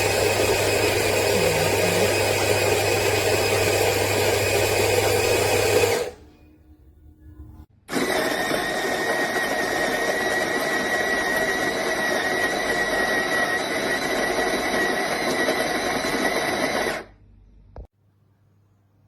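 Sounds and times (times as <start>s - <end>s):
coffee grinder motor whining: 0.0s - 6.2s, 7.9s - 17.1s.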